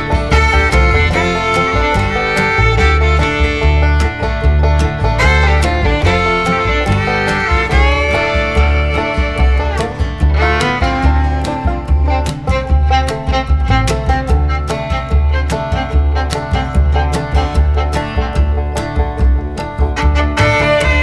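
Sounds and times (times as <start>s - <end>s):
bluegrass music with fiddle and banjo: 0.0s - 21.0s.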